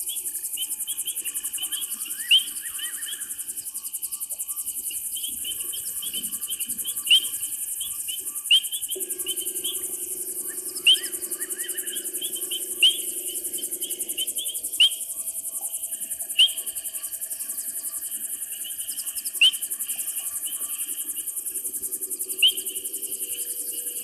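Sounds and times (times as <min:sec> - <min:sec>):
crickets trilling chorus: 0:00.0 - 0:24.0
soft small chirps: 0:00.0 - 0:24.0.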